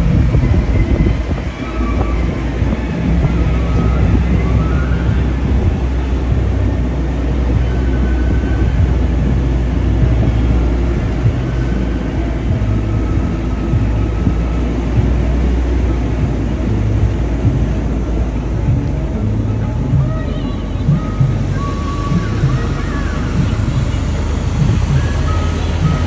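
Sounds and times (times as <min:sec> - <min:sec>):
road noise: 0:00.0 - 0:26.0
vehicle engine rumble: 0:00.0 - 0:26.0.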